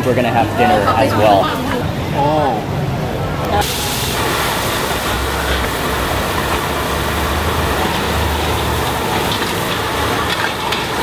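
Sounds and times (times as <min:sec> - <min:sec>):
gas burners rumbling and hissing: 0:00.0 - 0:11.0.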